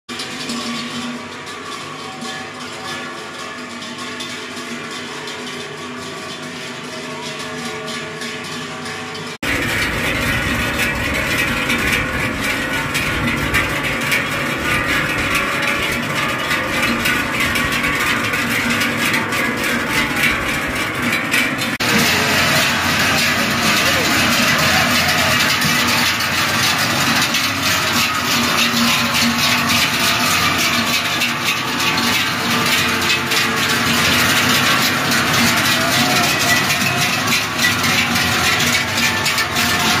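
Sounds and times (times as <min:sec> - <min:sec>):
cowbells clanging: 0:00.1 - 0:40.0.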